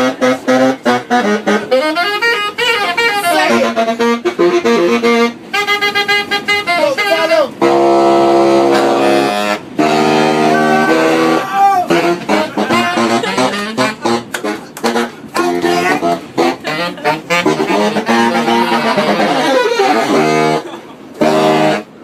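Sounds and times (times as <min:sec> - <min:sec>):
saxophone playing: 0:00.0 - 0:22.0.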